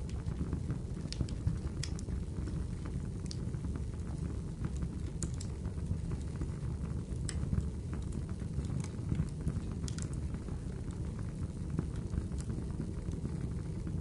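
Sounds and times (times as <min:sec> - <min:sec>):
sharp crackles and pops: 0:00.0 - 0:14.0
steady low rumble: 0:00.0 - 0:14.0.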